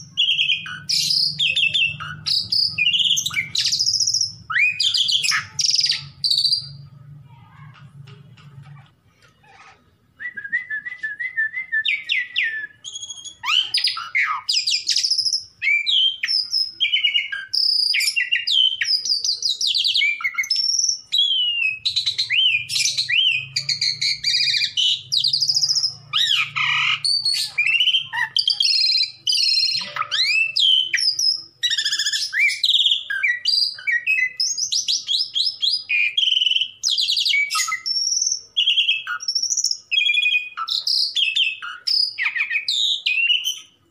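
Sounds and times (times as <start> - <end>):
starling singing: 0.0 - 7.0, 11.6 - 43.9.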